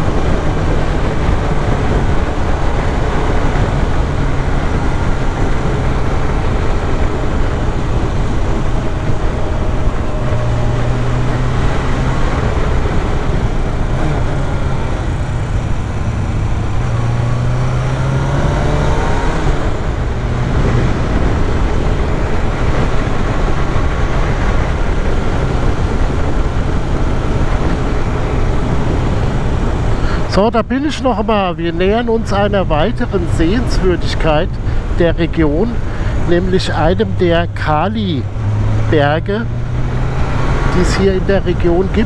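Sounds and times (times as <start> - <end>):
wind rush: 0.0 - 42.0.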